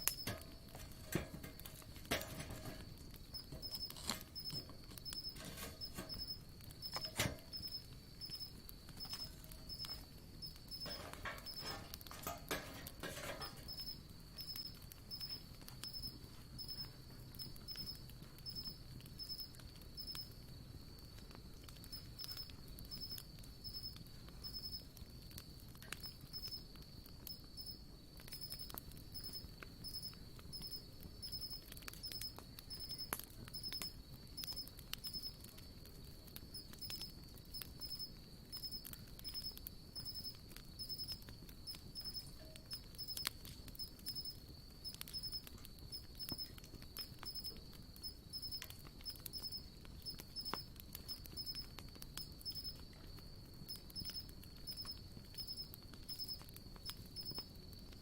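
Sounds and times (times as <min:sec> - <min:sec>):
campfire crackling and popping: 0:00.0 - 0:58.0
insect trill with chirps: 0:00.0 - 0:58.0.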